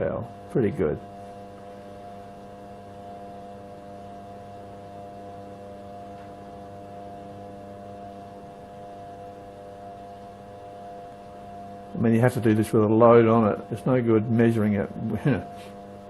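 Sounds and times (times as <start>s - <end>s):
lathe motor hum: 0.0s - 16.0s.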